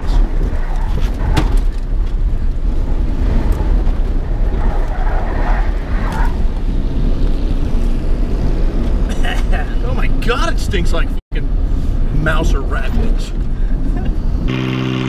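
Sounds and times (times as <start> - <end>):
truck engine rumbling: 0.0 - 15.0
wind and road noise: 0.0 - 15.0.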